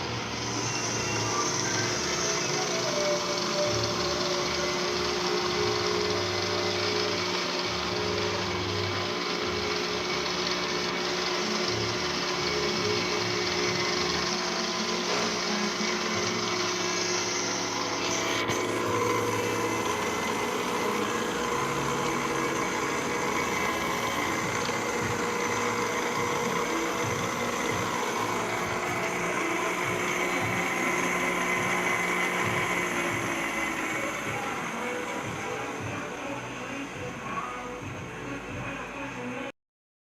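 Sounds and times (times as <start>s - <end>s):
drill press motor hum: 0.0s - 39.5s
gear whine: 0.0s - 39.5s.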